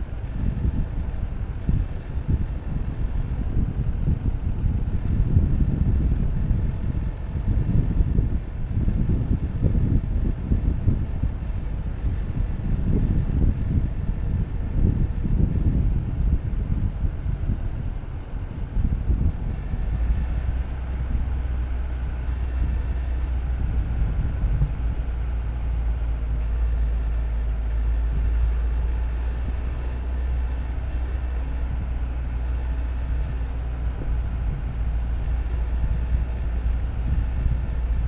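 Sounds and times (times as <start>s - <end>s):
vehicle rumble on paved road: 0.0s - 38.0s
wind noise: 0.0s - 38.0s.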